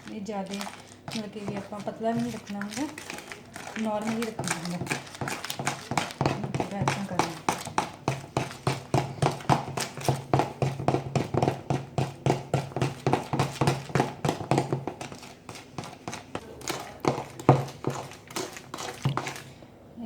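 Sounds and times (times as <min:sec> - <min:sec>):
spoon scraping a bowl: 0:00.0 - 0:19.6.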